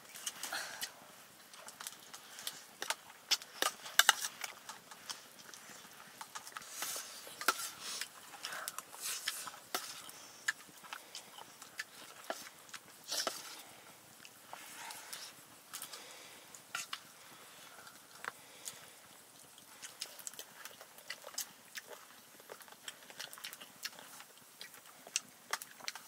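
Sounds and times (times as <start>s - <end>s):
chewing and lip-smacking: 0.2s - 26.0s.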